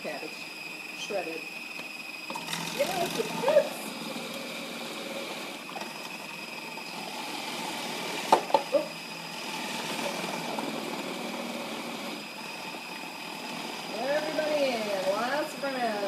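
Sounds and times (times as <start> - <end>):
food processor whirring: 0.0 - 16.0.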